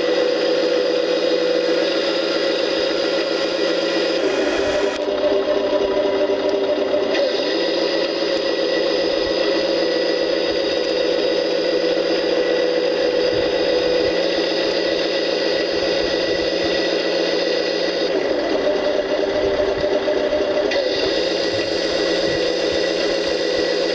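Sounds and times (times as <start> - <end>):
simulated truck engine sound: 0.0 - 23.9.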